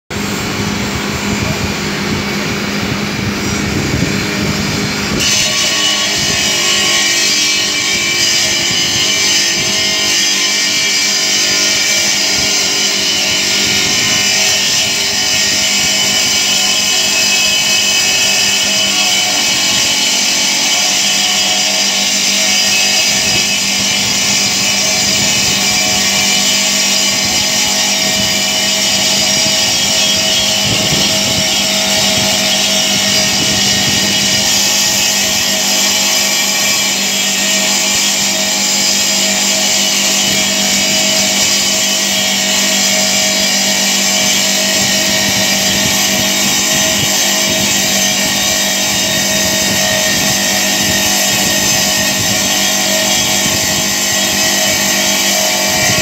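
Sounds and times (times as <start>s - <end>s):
circular saw cutting marble: 0.1s - 56.0s.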